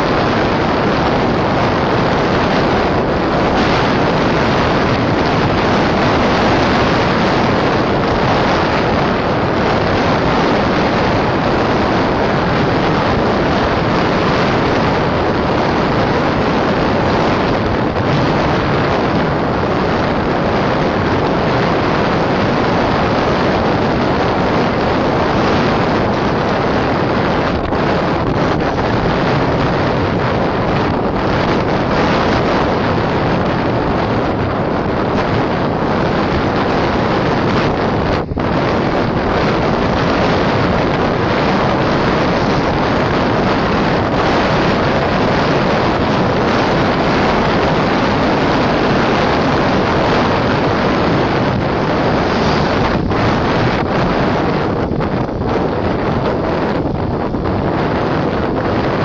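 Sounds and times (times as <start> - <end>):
loud wind on microphone: 0.0 - 59.0.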